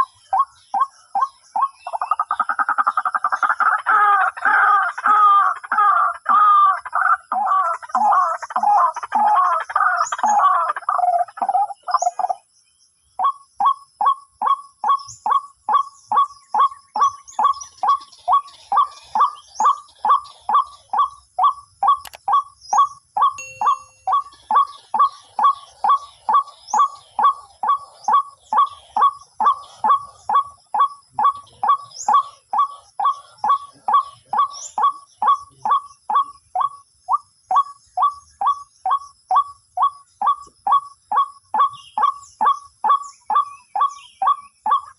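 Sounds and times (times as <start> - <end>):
bird croaking calls: 0.0 - 12.5, 13.1 - 44.9.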